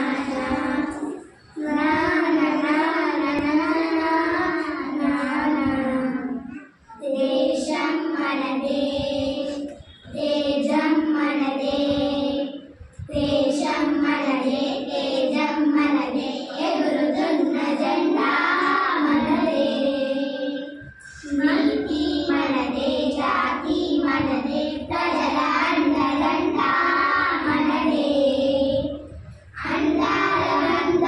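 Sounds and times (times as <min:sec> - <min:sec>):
girls singing unaccompanied: 0:00.0 - 0:31.0.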